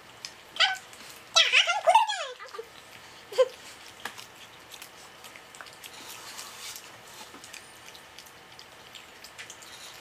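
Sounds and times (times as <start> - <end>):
people chewing: 0.0 - 10.0.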